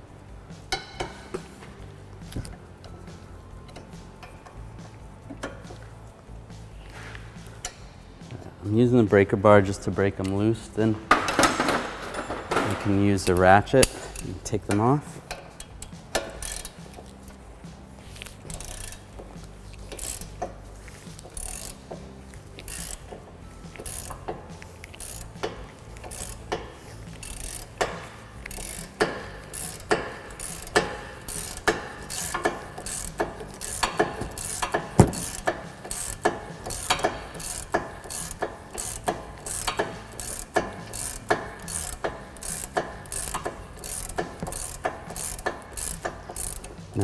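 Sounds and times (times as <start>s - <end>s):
ratchet wrench clicking: 0.7s - 1.5s, 2.2s - 5.9s, 7.4s - 7.9s, 11.1s - 17.4s, 18.1s - 47.0s.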